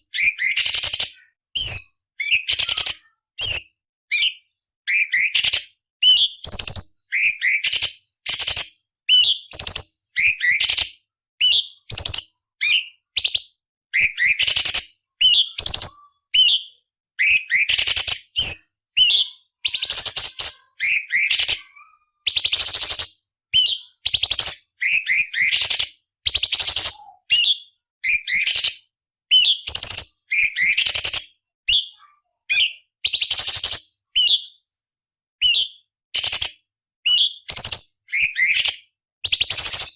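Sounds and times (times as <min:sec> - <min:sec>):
bird singing whistled chirps: 0:00.0 - 0:34.8, 0:35.4 - 0:39.9.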